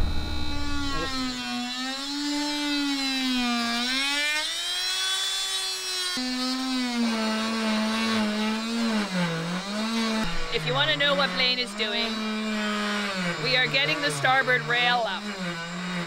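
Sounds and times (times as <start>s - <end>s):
oscillating tool cutting wood: 0.0s - 16.0s.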